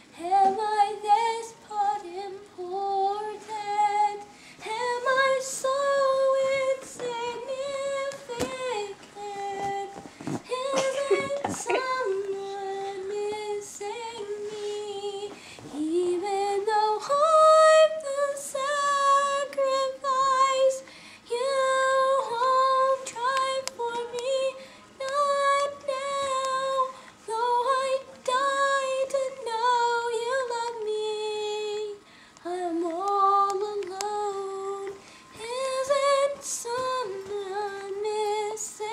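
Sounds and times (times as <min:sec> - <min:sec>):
girl singing unaccompanied: 0:00.0 - 0:38.9.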